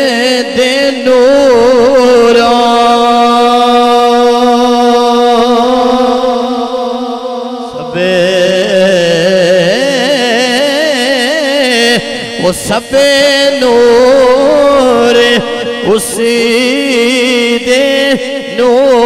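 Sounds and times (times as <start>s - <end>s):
man singing drawn-out notes: 0.0s - 19.0s.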